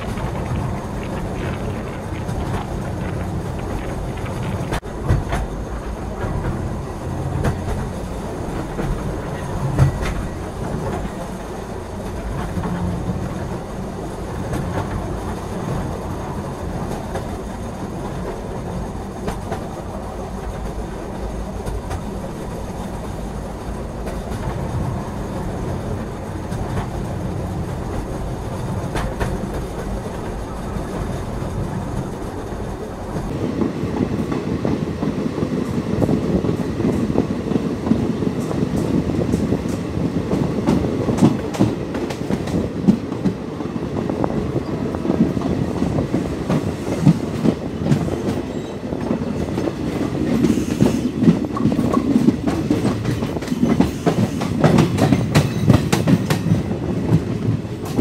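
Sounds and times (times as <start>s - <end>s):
train wheels clickety-clack on rails: 0.0s - 58.0s.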